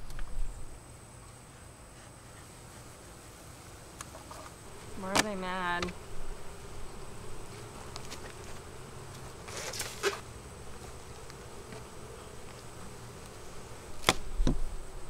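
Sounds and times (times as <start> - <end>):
bee smoker puff: 0.0 - 15.0
honeybees buzzing: 0.0 - 15.0.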